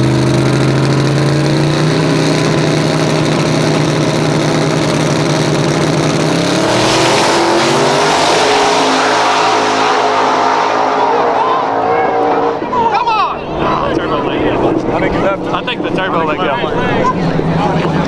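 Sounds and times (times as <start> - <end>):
drag race car engine revving: 0.0 - 18.0.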